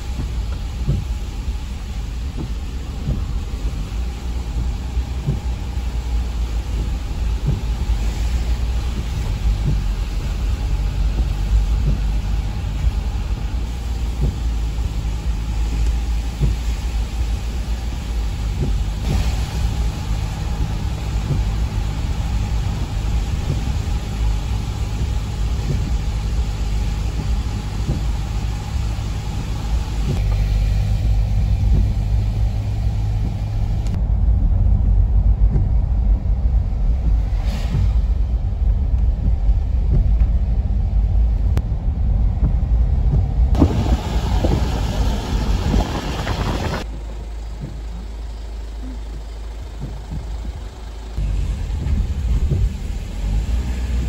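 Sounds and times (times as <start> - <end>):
tyre hiss on wet road: 0.0 - 34.0, 37.0 - 39.0, 43.5 - 54.0
engine and tyre rumble: 0.0 - 54.0.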